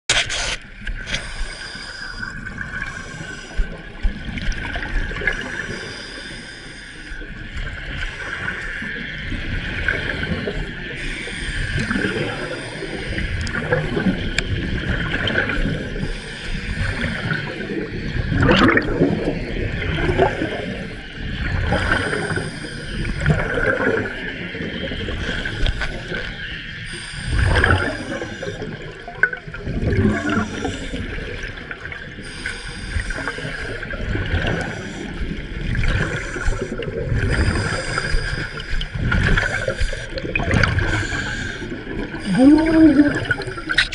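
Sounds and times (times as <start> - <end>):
underwater air bubbles gurgling: 0.6 - 43.9.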